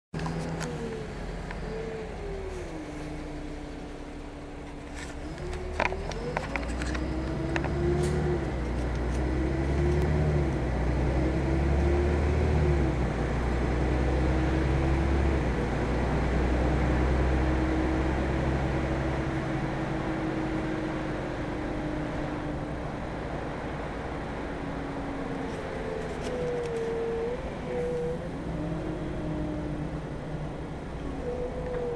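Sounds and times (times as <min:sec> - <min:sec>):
bus engine rumble and whine: 0:00.1 - 0:31.9.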